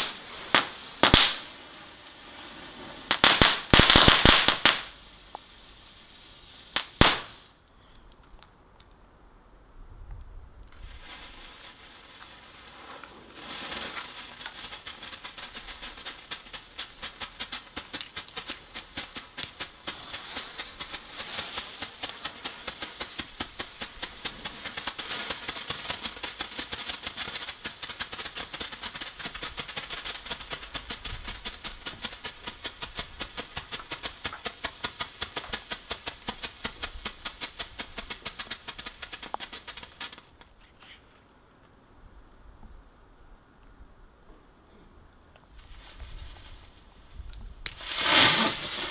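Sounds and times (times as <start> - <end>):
firework hissing and crackling: 0.0 - 7.6, 10.7 - 40.5, 45.5 - 48.9.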